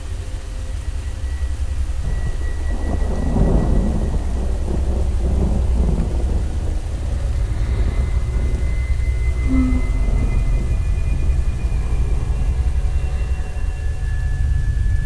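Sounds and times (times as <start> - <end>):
steady low drone: 0.0 - 15.0
thunder rumbling: 0.0 - 15.0.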